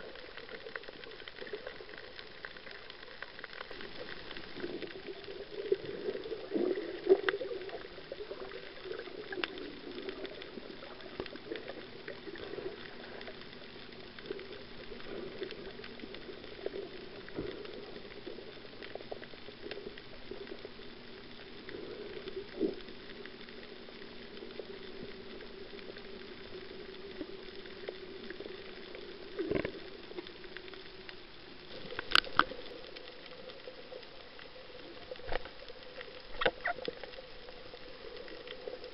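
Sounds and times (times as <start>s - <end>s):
muffled underwater hum: 0.0s - 38.9s
underwater clicks and crackles: 0.0s - 38.9s.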